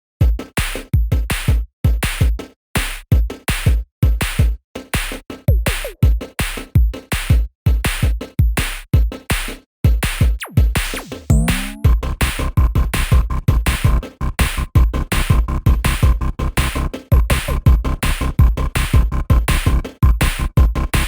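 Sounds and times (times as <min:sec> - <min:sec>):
electronic music with drum-machine beat: 0:00.2 - 0:21.0.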